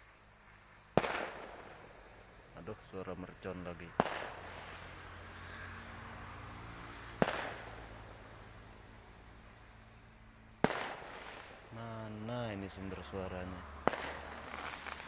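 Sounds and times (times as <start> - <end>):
firecracker bangs: 0.8 - 8.8, 10.5 - 15.0.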